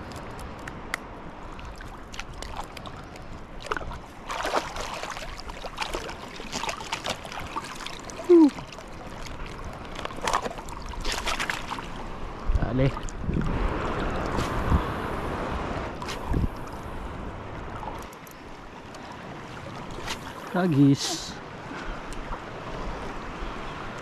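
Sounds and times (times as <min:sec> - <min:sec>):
water splashing at shoreline: 0:00.0 - 0:24.0.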